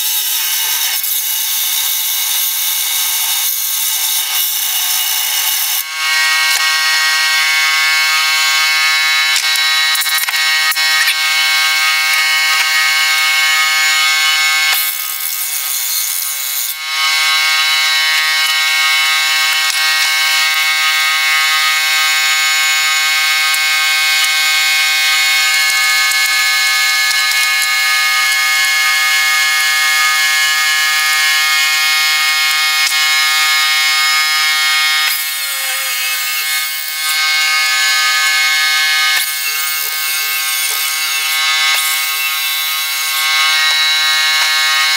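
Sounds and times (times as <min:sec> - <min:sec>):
workshop machine whine: 0:00.0 - 0:44.9.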